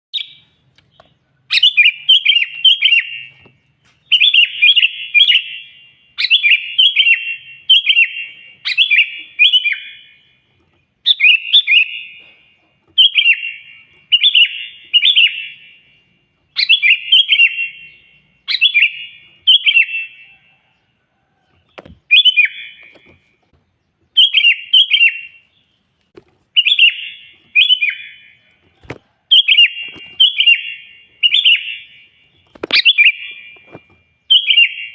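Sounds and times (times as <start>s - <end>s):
bulbul singing: 0.1s - 20.8s, 21.6s - 34.9s.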